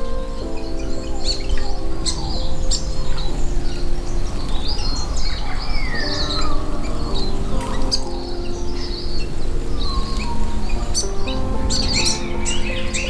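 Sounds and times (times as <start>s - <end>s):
small birds chirping: 0.0s - 13.0s
soft background music: 0.0s - 13.0s.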